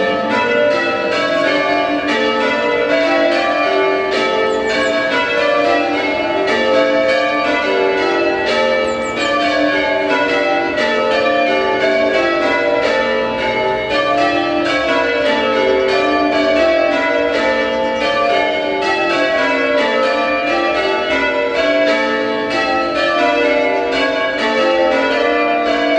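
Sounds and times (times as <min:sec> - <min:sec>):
church bells change ringing: 0:00.0 - 0:25.9.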